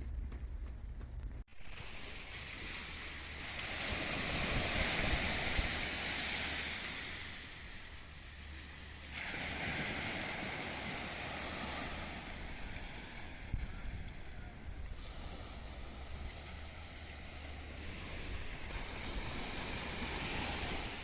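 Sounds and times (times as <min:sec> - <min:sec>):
wind rumbling on microphone: 0:00.0 - 0:21.0
sea surf washing onto shore: 0:01.6 - 0:21.0.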